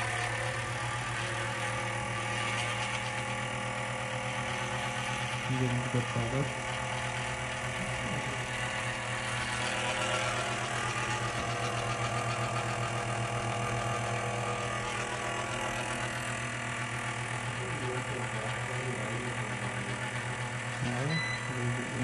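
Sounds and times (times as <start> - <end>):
power supply buzzing hum: 0.0 - 22.0.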